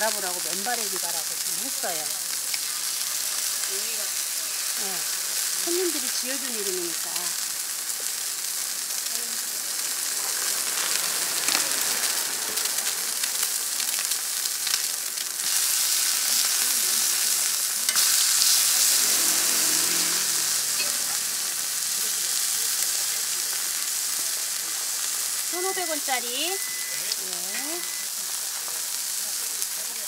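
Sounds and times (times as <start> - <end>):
food sizzling on a griddle: 0.0 - 30.0.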